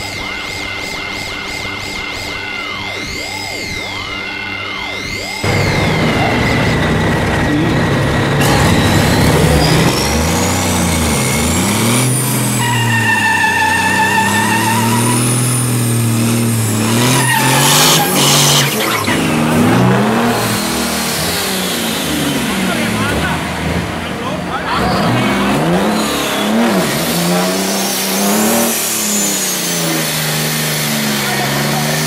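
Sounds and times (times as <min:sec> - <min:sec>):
high tire squeal: 0:00.0 - 0:23.4, 0:24.6 - 0:32.0
diesel truck engine revving: 0:02.3 - 0:32.0.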